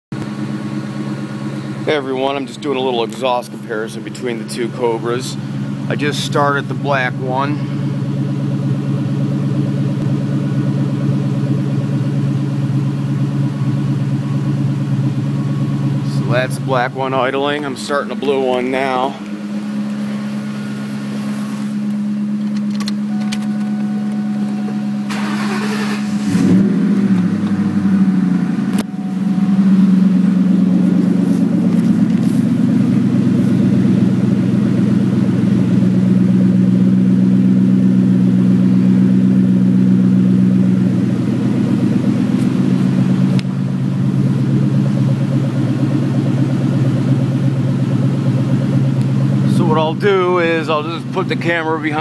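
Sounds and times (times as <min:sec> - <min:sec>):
car engine idling: 0:00.1 - 0:52.0
car engine cranking and starting: 0:00.2 - 0:52.0.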